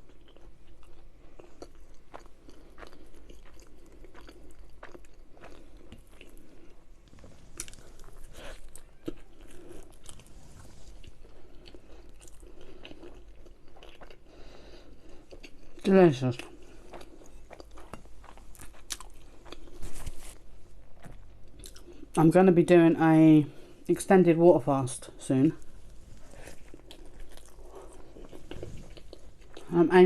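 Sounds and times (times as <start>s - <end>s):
close chewing of food: 0.0s - 22.2s, 25.5s - 30.0s.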